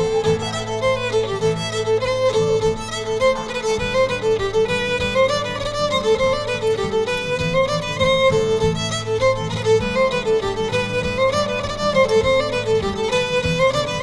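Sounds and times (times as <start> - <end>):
low held accompaniment: 0.0 - 13.7
fiddle playing quick melody: 0.0 - 14.0.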